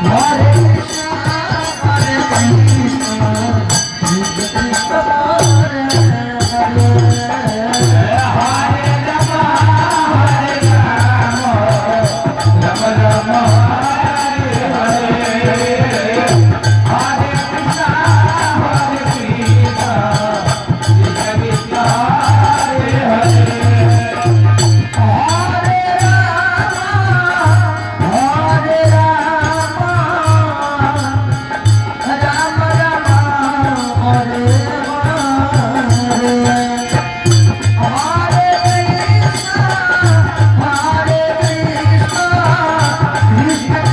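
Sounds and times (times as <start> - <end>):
jingling rattle percussion: 0.0 - 43.9.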